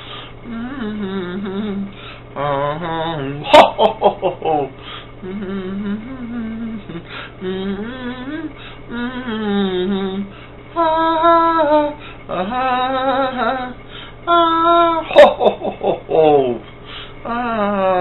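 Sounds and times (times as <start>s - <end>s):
person singing wordless melody: 0.4s - 18.0s.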